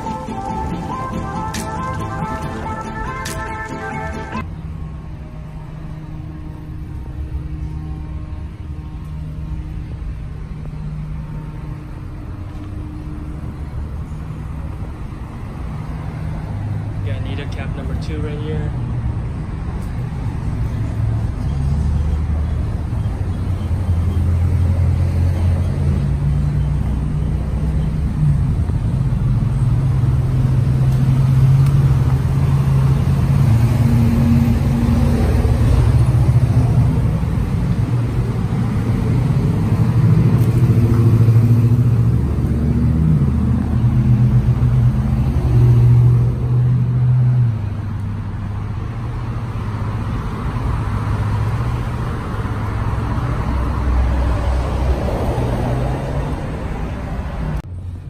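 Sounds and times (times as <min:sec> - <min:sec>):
motor vehicle rumbling: 0:00.0 - 0:58.0.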